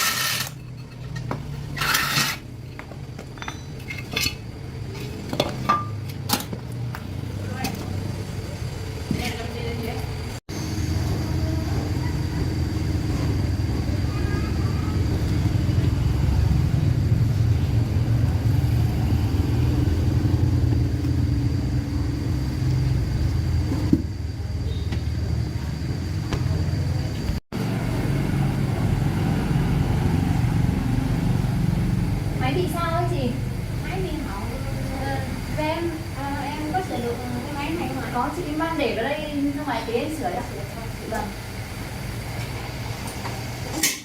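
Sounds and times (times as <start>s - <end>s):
engine rumbling: 0.4s - 43.9s.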